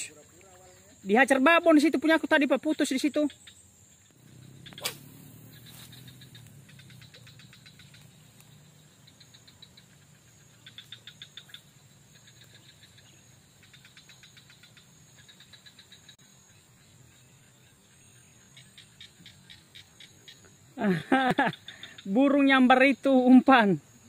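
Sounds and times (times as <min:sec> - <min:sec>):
insect chirps: 0:00.0 - 0:24.0.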